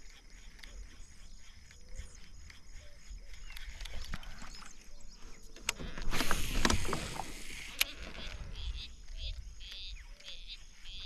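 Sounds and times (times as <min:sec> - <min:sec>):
faint clicks: 0:00.0 - 0:04.4, 0:05.5 - 0:10.5.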